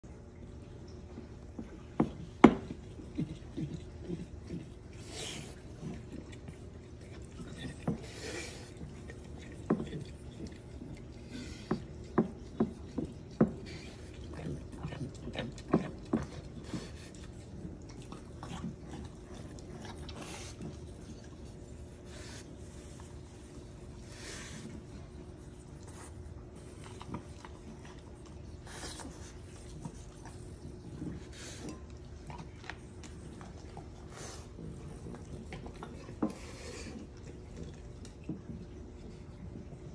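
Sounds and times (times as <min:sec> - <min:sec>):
dog licking a ceramic pitcher: 0:00.3 - 0:39.9
dog snuffling breaths: 0:02.7 - 0:37.8.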